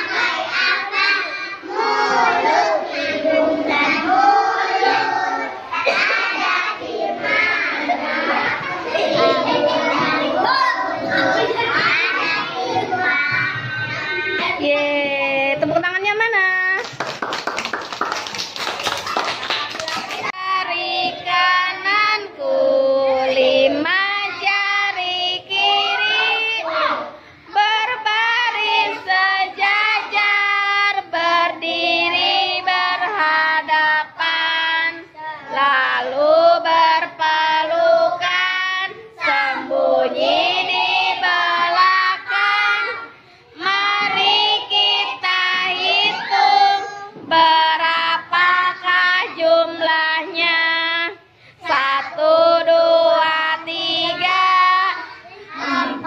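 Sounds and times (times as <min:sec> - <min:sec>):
boys singing together: 0:00.0 - 0:14.7, 0:20.1 - 0:56.0.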